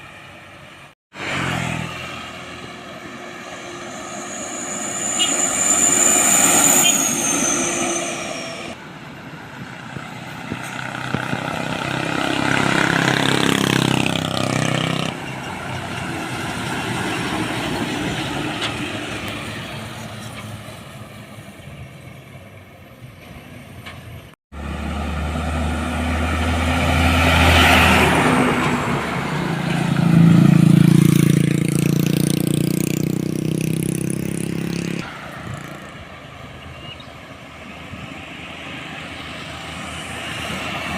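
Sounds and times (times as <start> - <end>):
heavy trucks passing: 0.0 - 40.9.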